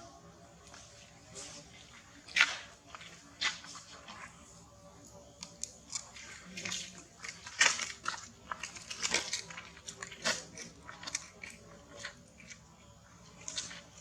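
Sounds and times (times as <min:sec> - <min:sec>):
monkey chewing crunchy food: 0:00.6 - 0:14.0.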